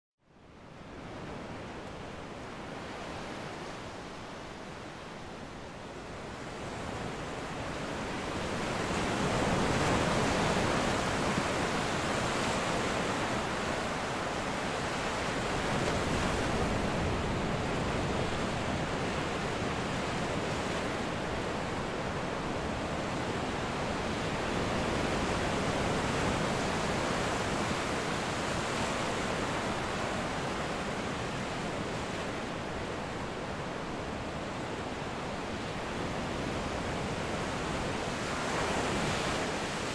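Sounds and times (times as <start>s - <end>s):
ocean waves breaking on beach: 0.5s - 39.9s.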